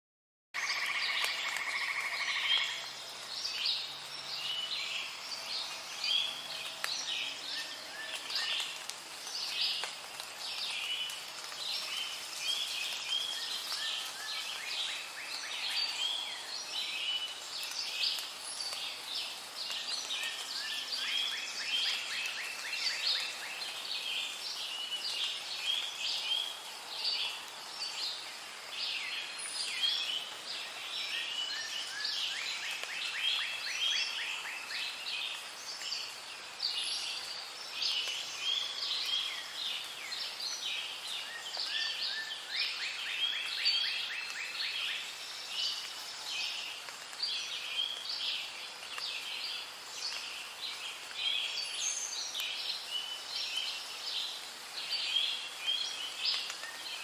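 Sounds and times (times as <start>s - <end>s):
faint steady hiss: 0.6s - 57.0s.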